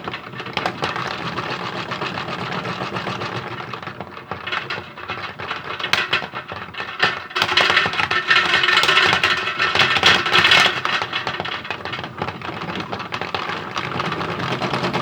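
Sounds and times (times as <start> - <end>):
hard objects rattling in drum: 0.0 - 15.0
toy washing machine running: 0.0 - 15.0.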